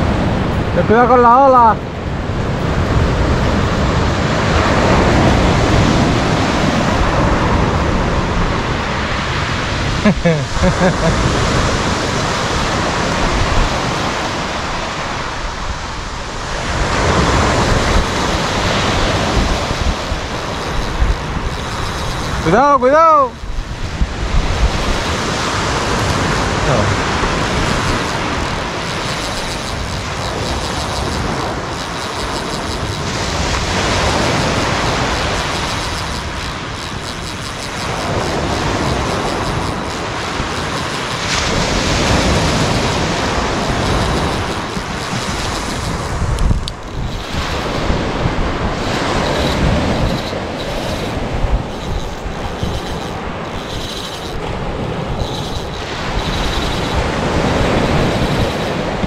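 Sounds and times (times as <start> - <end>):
waves breaking on pebble beach: 0.0 - 59.0
wind on microphone: 0.0 - 59.0.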